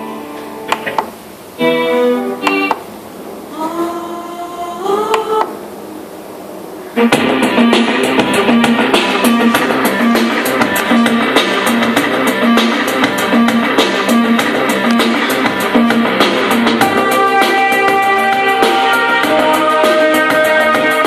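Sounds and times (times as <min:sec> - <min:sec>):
music with steady beat: 0:00.0 - 0:02.9, 0:07.0 - 0:21.0.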